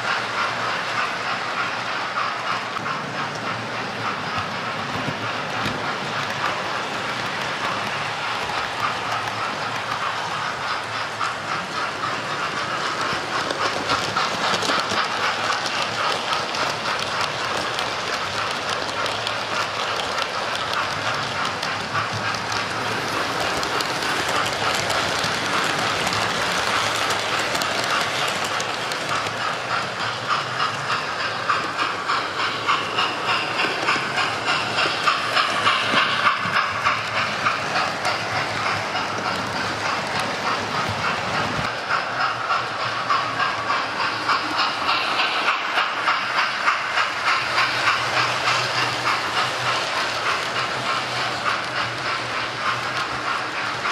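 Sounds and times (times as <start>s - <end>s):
model train wheels clattering: 0.0s - 53.9s.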